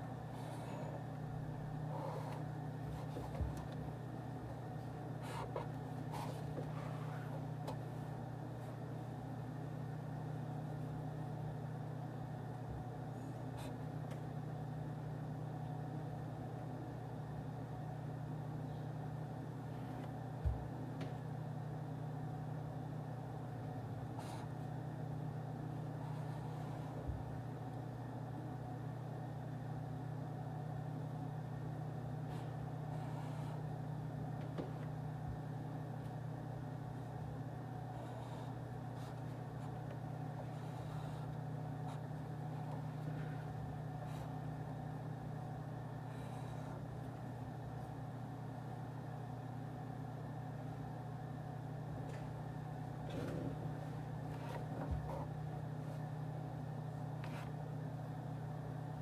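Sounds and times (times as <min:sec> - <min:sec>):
ventilation hum: 0:00.0 - 0:59.0.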